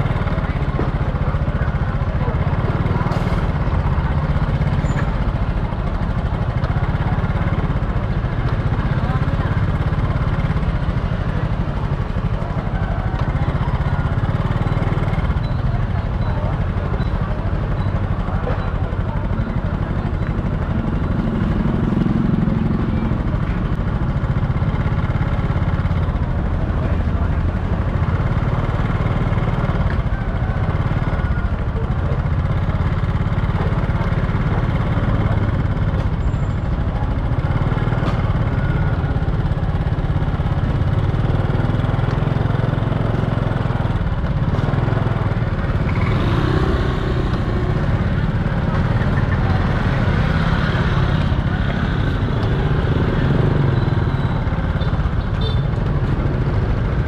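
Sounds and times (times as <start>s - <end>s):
low traffic rumble: 0.0s - 57.0s
motorbike engines passing: 0.0s - 57.0s.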